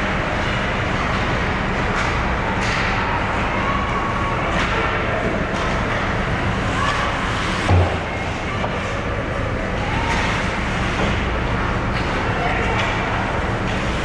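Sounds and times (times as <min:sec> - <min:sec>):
crowd chatter: 0:00.0 - 0:14.0.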